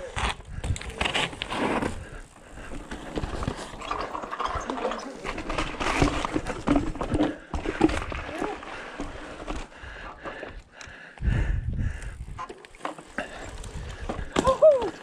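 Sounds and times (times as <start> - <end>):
mountain bike rattling over rocks: 0.1 - 10.6, 12.2 - 15.0.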